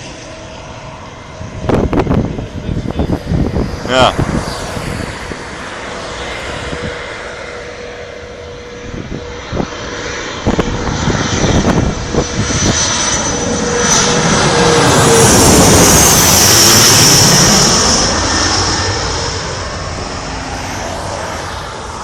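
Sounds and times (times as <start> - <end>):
airliner engines approaching: 0.0 - 22.0.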